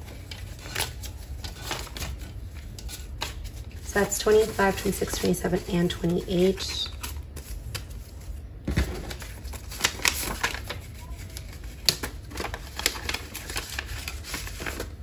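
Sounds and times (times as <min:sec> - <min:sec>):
paper bills rustling: 0:00.0 - 0:15.0.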